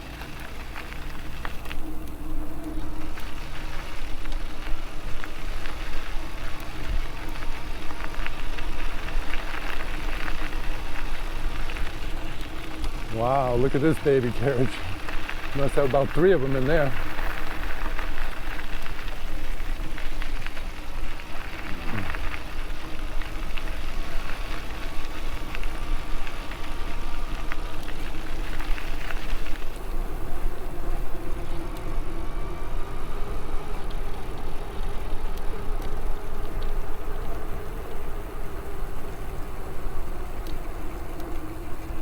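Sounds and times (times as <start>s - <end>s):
bike riding rumble and hiss: 0.0s - 42.0s
faint motor whine: 0.0s - 42.0s.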